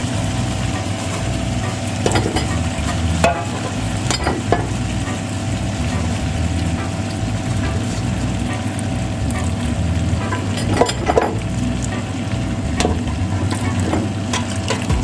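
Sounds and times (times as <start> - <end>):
food sizzling in a pot: 0.0 - 15.0
utensil knocking and scraping pot: 2.0 - 5.2, 5.8 - 15.0.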